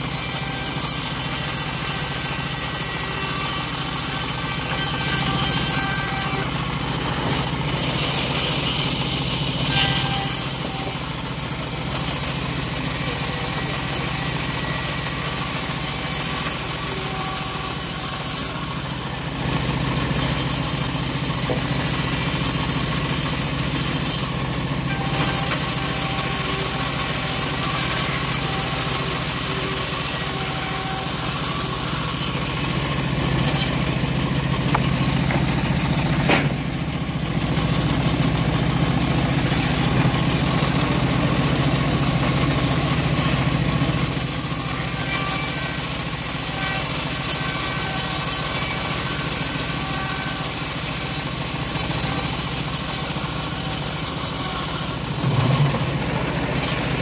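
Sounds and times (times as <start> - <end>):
bandsaw mill cutting wood: 0.0 - 57.0.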